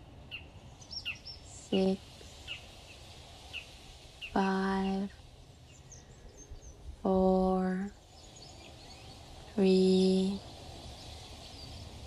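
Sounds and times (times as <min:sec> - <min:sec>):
faint bird chirps: 0:00.3 - 0:12.0.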